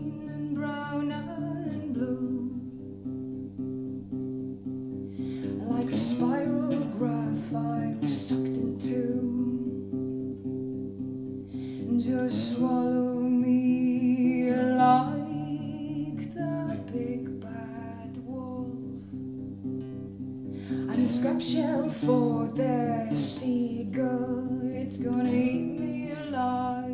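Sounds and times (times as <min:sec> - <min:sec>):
woman singing: 0:00.0 - 0:03.0, 0:05.2 - 0:10.4, 0:11.5 - 0:19.3, 0:20.6 - 0:26.9
electric guitar picking: 0:00.0 - 0:26.9.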